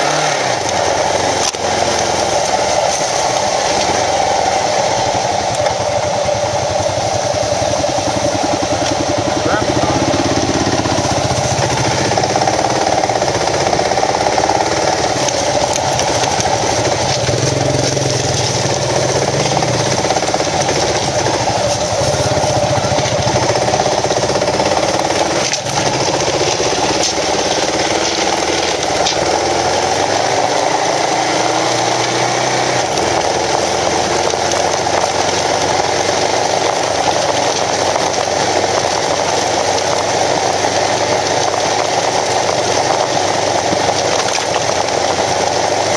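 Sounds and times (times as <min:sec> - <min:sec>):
motorcycle engine revving: 0:00.0 - 0:45.9
steady rushing noise: 0:00.0 - 0:45.9.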